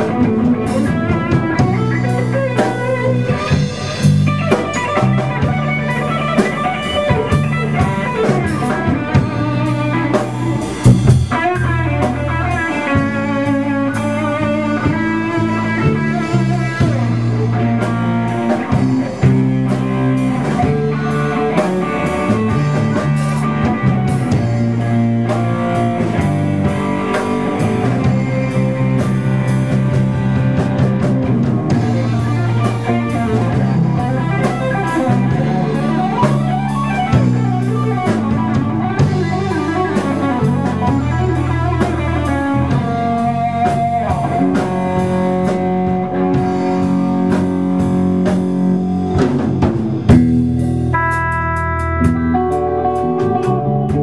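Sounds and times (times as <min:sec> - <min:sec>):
drum kit: 0:00.0 - 0:54.0
electric bass: 0:00.0 - 0:54.0
electric guitar lead lines: 0:00.0 - 0:54.0.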